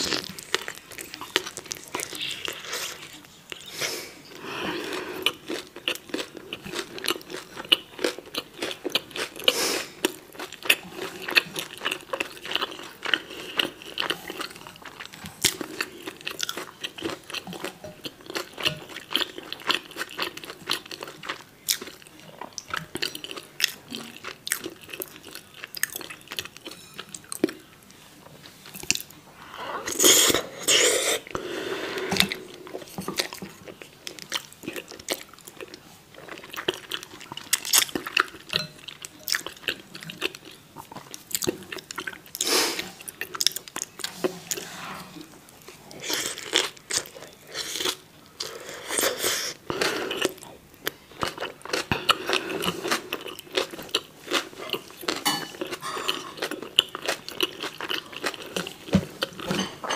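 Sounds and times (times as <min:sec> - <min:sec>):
close chewing with mouth clicks: 0:00.0 - 0:29.2, 0:32.1 - 0:44.7, 0:45.5 - 0:59.9.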